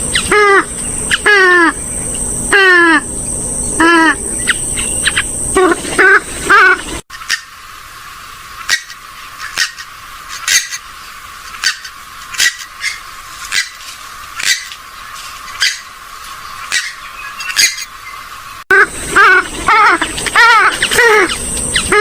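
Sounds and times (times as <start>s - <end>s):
gallinule sharp calls: 0.1s - 3.1s, 3.8s - 14.8s, 15.5s - 22.0s.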